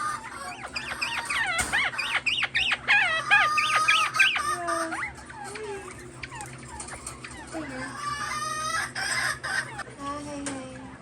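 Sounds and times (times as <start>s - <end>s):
birds squawking and chirping: 0.0s - 10.0s.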